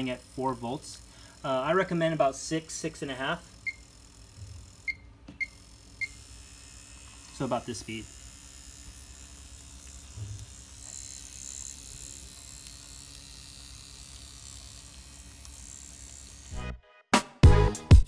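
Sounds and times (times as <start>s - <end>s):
tattoo machine buzzing: 0.0s - 16.7s.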